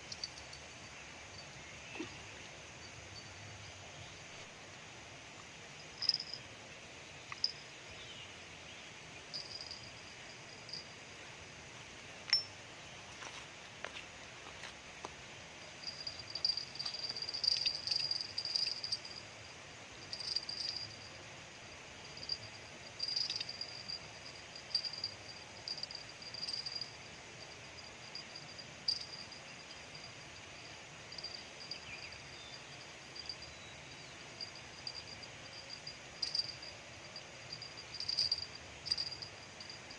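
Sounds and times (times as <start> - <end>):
high-pitched insect chirping: 0.0 - 4.5, 5.2 - 14.7, 15.3 - 39.9.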